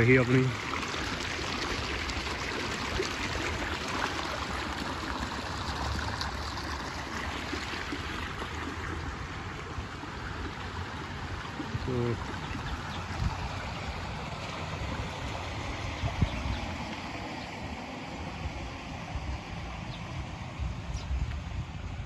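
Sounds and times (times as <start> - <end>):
water gushing into concrete channel: 0.0 - 21.8.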